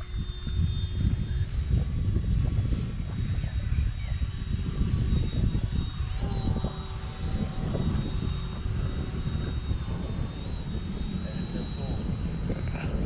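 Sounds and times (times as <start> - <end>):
electric jet fan whine: 0.0 - 13.0
wind rumble on microphone: 0.0 - 13.0.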